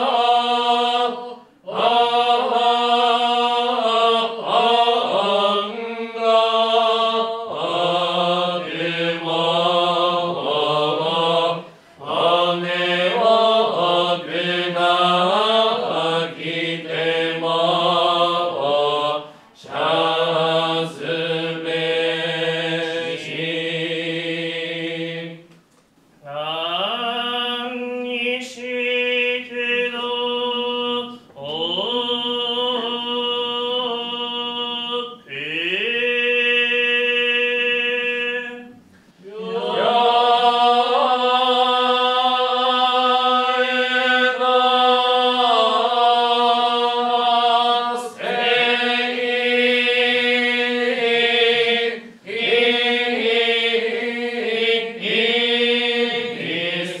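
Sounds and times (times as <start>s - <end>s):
group chanting in unison: 0.0s - 25.5s, 26.2s - 57.0s.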